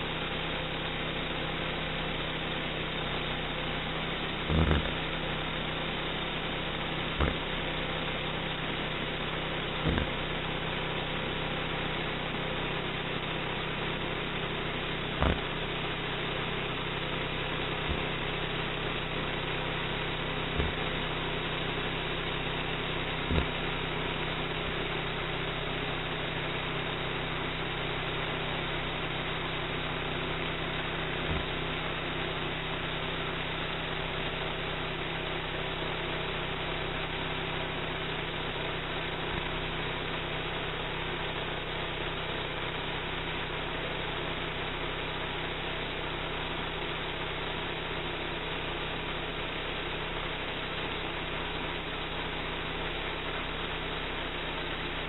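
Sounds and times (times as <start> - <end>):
gas engine running: 0.0 - 55.0.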